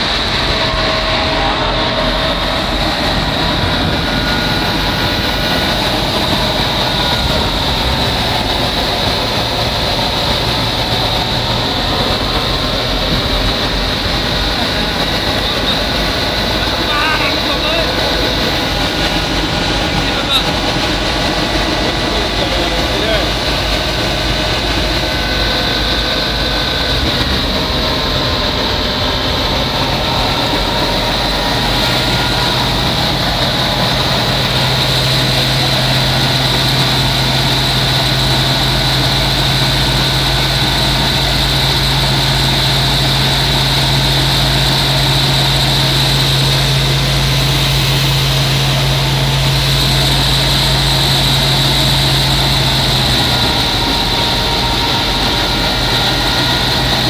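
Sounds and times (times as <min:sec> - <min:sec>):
threshing machine running: 0:00.0 - 0:57.0.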